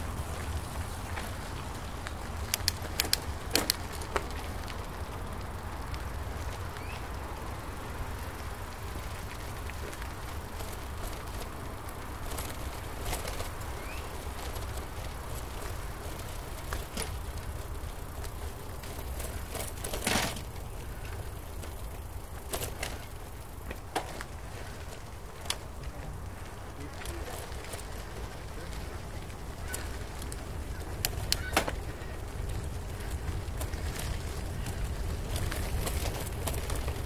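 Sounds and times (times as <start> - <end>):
bicycle tyres rumbling on trail: 0.0 - 37.0
bike clicks and rattles: 0.0 - 37.0.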